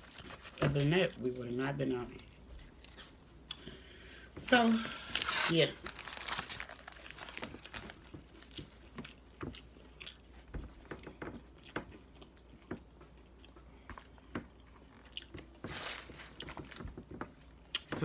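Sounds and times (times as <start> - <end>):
chewing and crunching food: 0.0 - 3.8, 5.0 - 18.0.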